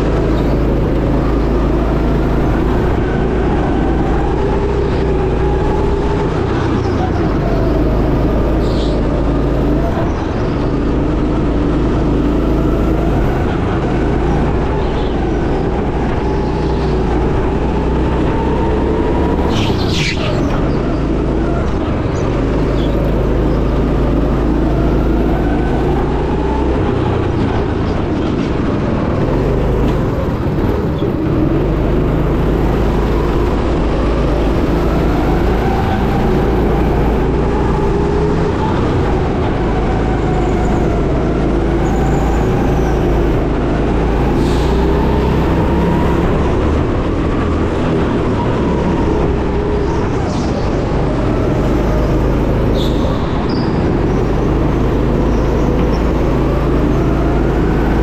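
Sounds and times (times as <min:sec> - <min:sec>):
go-kart motor revving: 0:00.0 - 0:58.0.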